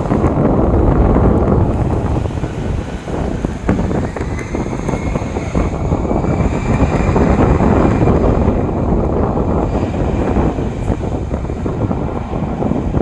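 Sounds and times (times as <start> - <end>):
airliner engines roaring: 0.0 - 13.0.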